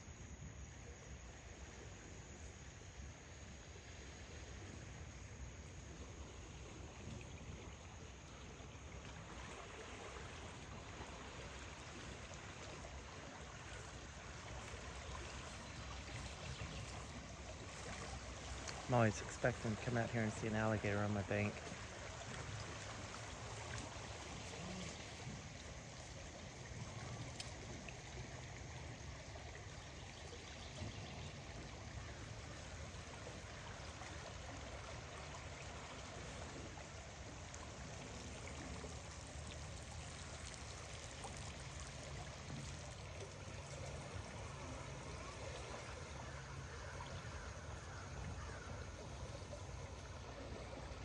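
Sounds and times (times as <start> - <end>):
river in flood rushing: 9.0 - 51.0.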